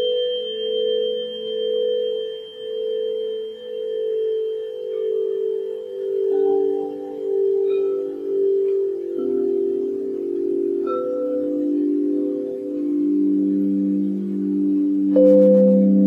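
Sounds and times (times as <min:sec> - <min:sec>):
long ringing meditation tones: 0:00.0 - 0:16.0.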